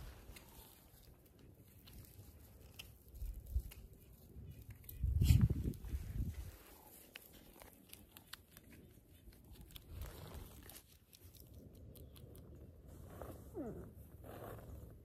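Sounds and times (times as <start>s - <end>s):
pine needles and twigs crackling: 0.0s - 12.4s.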